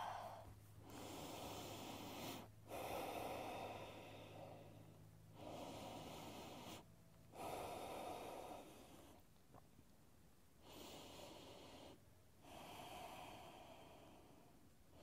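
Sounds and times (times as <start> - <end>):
woman breathing slowly: 0.0 - 9.6, 10.6 - 15.0.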